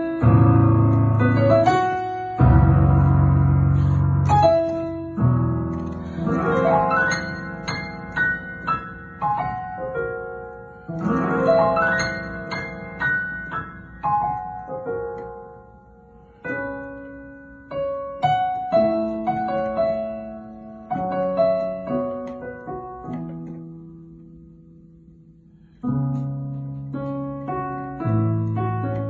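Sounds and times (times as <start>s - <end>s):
solo piano: 0.0s - 29.0s.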